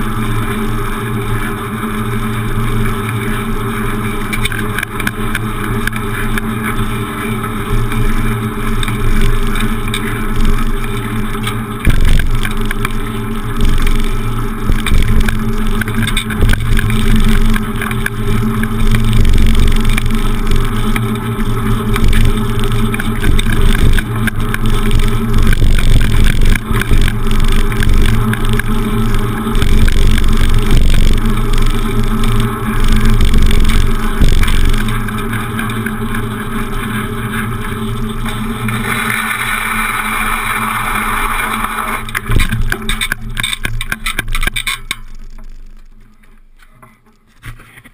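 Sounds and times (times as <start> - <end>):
bicycle tyre and frame noise: 0.0 - 47.9
bike rattling over cobblestones: 0.0 - 47.9.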